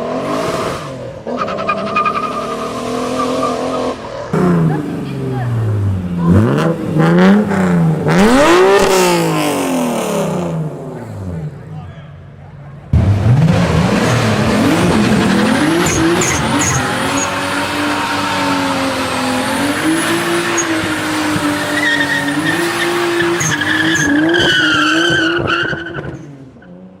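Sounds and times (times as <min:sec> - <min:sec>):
car engine revving high: 0:00.0 - 0:11.6, 0:12.9 - 0:26.8.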